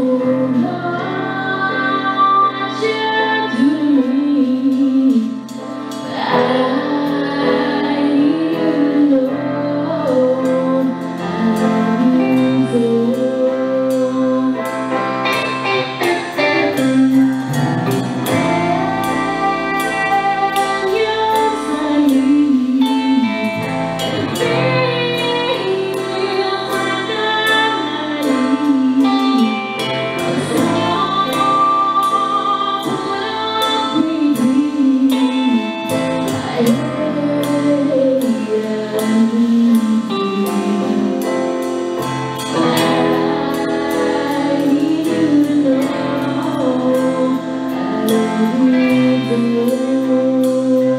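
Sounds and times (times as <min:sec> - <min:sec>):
woman singing: 0:00.0 - 0:41.7, 0:42.4 - 0:50.9
bass guitar: 0:00.0 - 0:50.9
drums: 0:00.0 - 0:50.9
electric guitar: 0:00.0 - 0:50.9
stage piano: 0:00.0 - 0:50.9.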